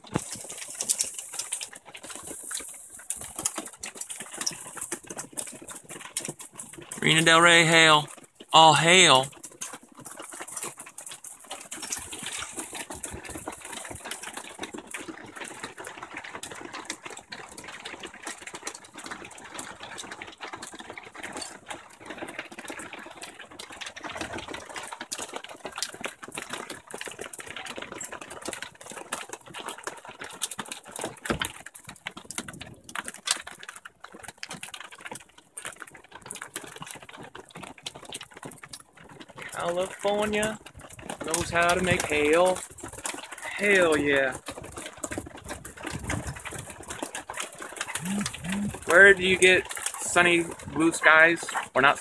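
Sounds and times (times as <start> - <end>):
hailstones rattling: 0.0 - 52.0.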